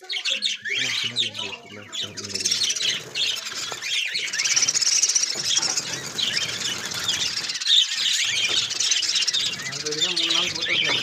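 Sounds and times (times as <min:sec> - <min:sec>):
lovebirds chirping and squealing: 0:00.0 - 0:11.0.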